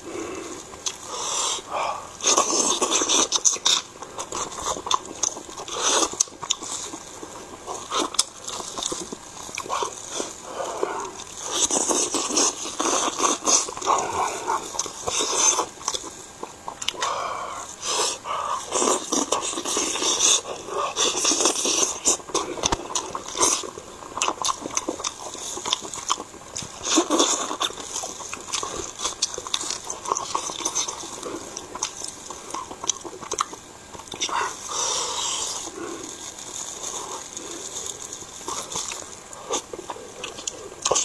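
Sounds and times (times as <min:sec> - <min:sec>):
chewing and lip-smacking: 0:00.6 - 0:01.4, 0:02.2 - 0:41.0.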